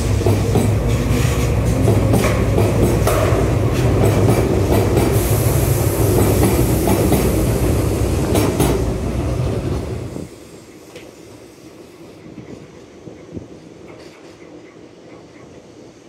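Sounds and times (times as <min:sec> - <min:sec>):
train rolling past rumbling: 0:00.0 - 0:16.0.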